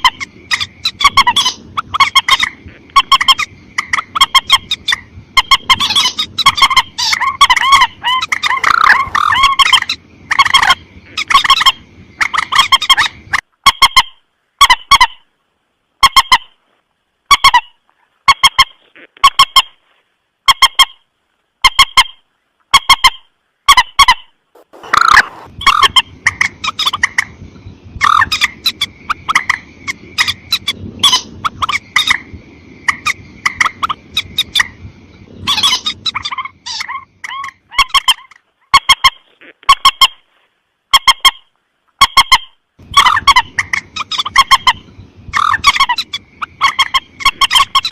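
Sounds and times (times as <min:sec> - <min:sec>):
moorhen honking calls: 0:00.0 - 0:15.2, 0:21.6 - 0:27.3, 0:28.0 - 0:34.8, 0:35.4 - 0:40.2, 0:42.0 - 0:47.9.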